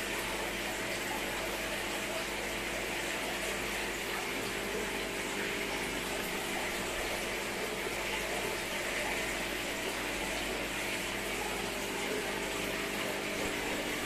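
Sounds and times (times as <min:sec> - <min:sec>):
aquarium filter running: 0:00.0 - 0:14.0.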